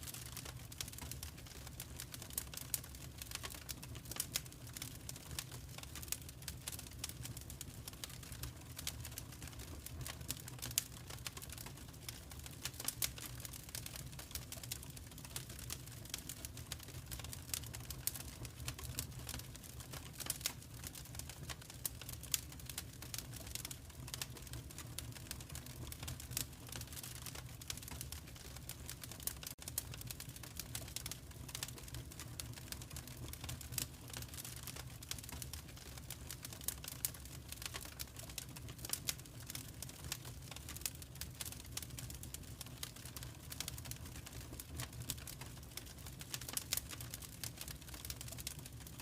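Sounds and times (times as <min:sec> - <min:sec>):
fire crackling and popping: 0:00.0 - 0:49.0.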